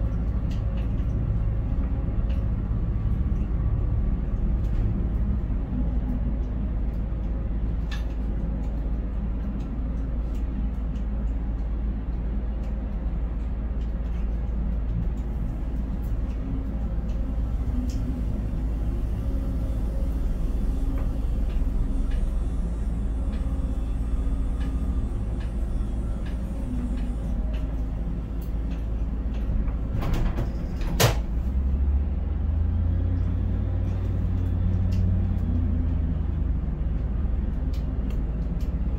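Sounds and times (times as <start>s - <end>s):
crane machinery drone: 0.0s - 38.9s
deep machinery hum: 0.0s - 38.9s.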